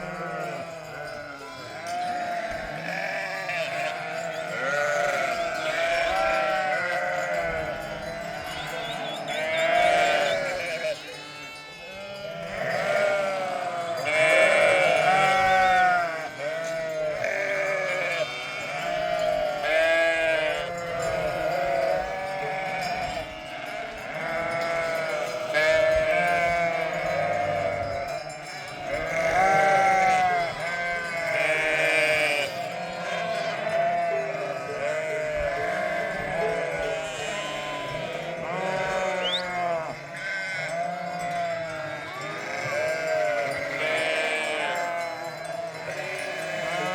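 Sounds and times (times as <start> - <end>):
sheep bleating: 0.0 - 46.9.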